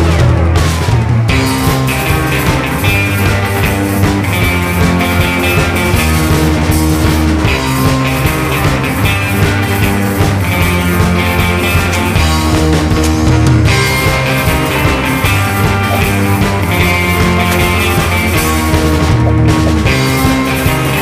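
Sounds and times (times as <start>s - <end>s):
electric bass line: 0.0s - 21.0s
electric guitars playing melody: 0.0s - 21.0s
steady drum beat: 0.0s - 21.0s.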